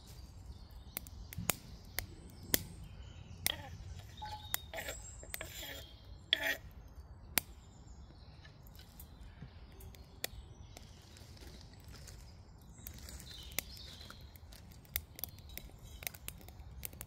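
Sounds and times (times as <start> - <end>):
faint woodland birdsong: 0.0 - 17.0
twig fire crackling: 0.0 - 17.0.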